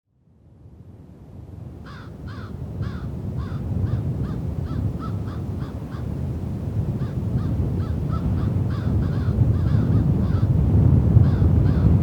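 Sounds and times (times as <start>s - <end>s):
wind rumble on microphone: 0.2s - 12.0s.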